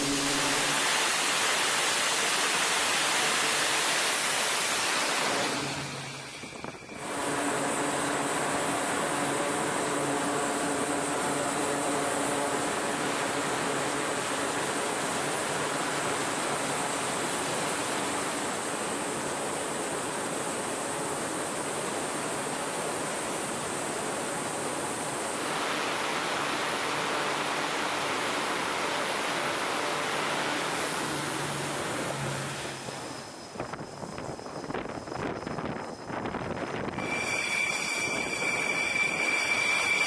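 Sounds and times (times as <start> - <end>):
turboprop engines roaring: 0.0 - 40.0.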